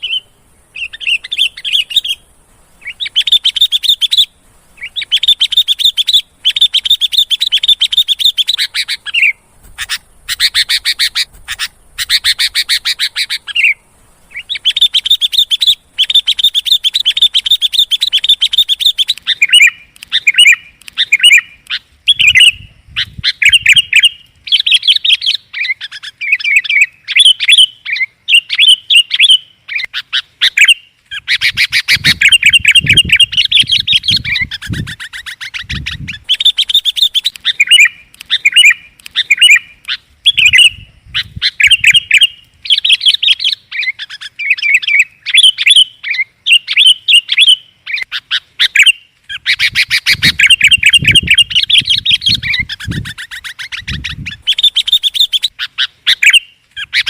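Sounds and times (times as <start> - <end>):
bulbul chirping and chattering: 0.0 - 57.0.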